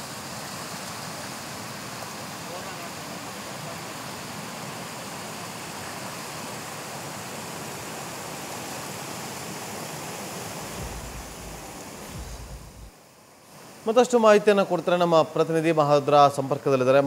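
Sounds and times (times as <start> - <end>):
river water rushing: 0.0 - 13.9.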